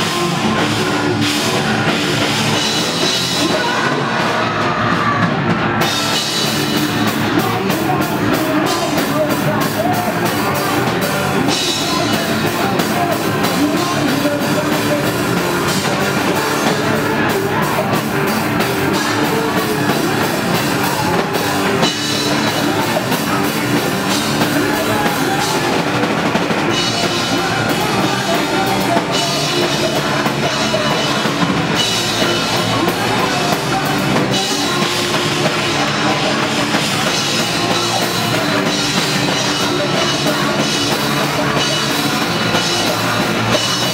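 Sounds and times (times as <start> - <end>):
bass guitar: 0.0 - 43.9
distorted electric guitars: 0.0 - 43.9
pounding drum kit: 0.0 - 43.9.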